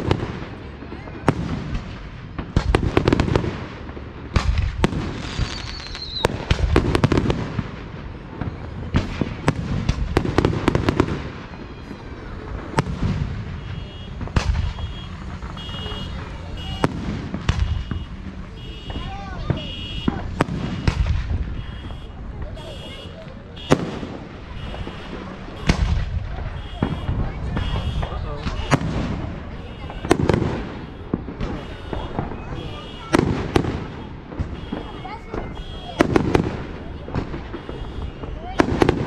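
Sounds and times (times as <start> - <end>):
fireworks bursting with sharp bangs: 0.0 - 39.0.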